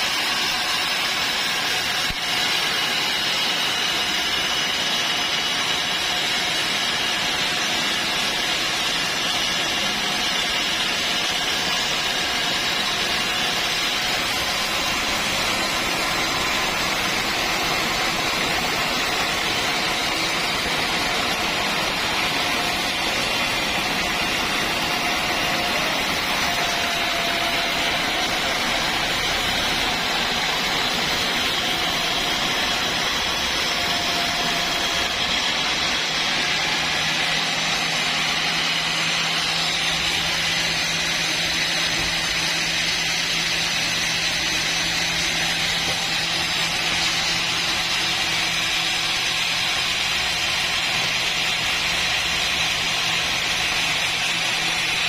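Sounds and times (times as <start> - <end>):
sawmill machine noise: 0.0 - 55.0.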